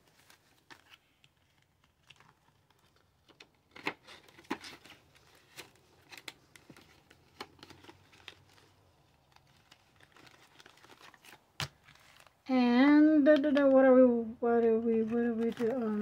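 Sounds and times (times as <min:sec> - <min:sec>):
banknotes rustling and flicking: 0:00.0 - 0:12.6, 0:14.4 - 0:16.0.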